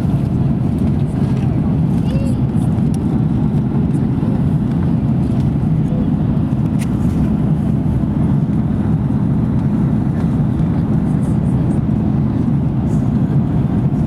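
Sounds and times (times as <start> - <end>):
airliner cabin engine roar: 0.0 - 14.0.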